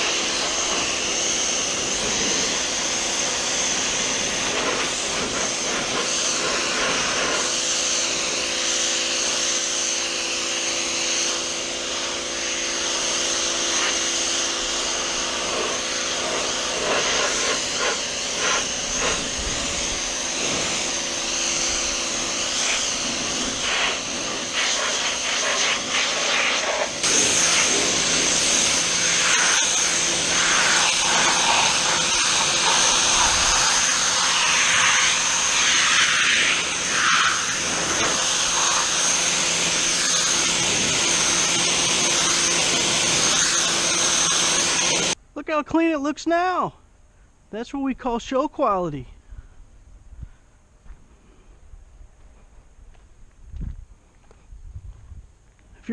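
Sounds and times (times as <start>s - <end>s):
pressure washer motor humming: 0.0s - 45.2s
water jet spray hissing: 0.0s - 45.2s.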